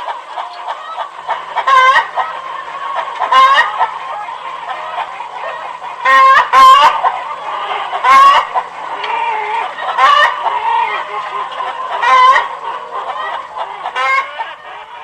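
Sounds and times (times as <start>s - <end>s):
hen clucking: 0.0s - 15.0s
hen drawn-out call: 0.4s - 15.0s.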